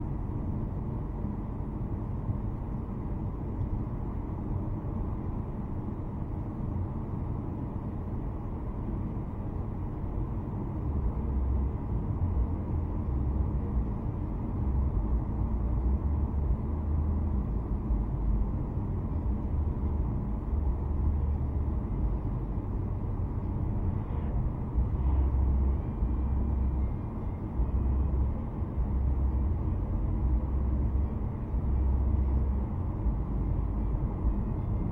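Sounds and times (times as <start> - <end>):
car driving on road: 0.0 - 34.9.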